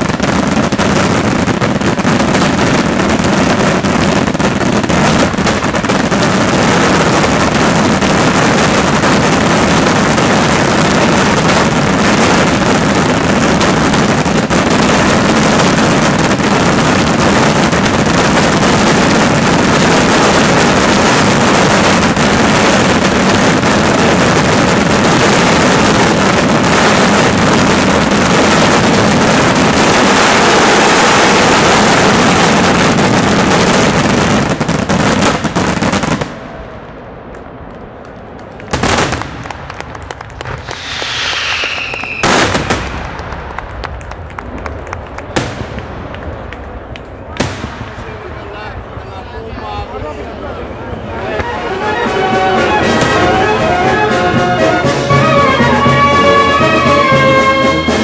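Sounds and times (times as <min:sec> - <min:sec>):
firecrackers going off rapidly: 0:00.0 - 0:49.1, 0:50.7 - 0:58.0.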